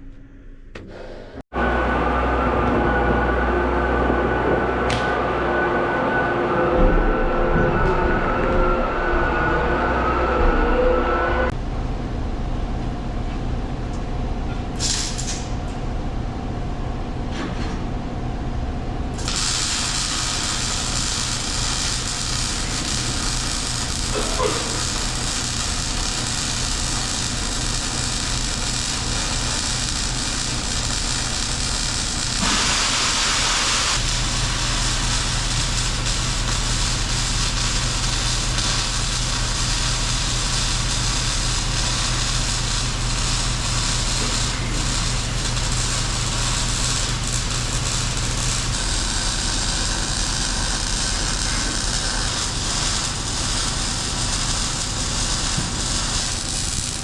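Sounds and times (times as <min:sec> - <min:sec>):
machine humming and hissing: 0:00.0 - 0:12.0, 0:14.4 - 0:57.0.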